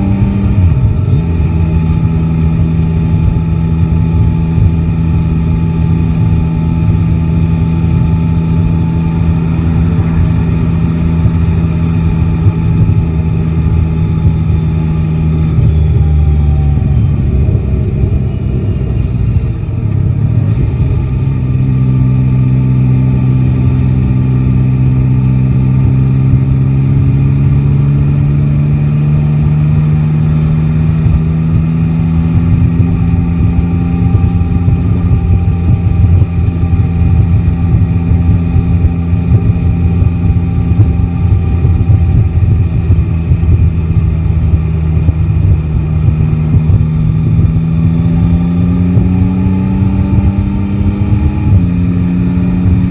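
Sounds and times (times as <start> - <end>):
motorcycle engine running: 0.0 - 52.9
road and wind noise: 0.0 - 52.9.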